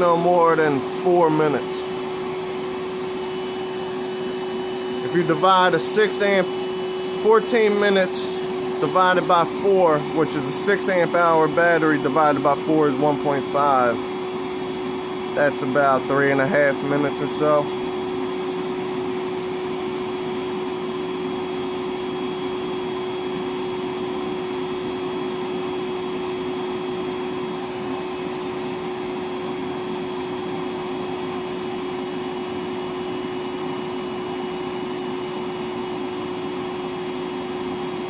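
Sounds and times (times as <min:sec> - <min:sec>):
shop vacuum running: 0:00.0 - 0:38.0.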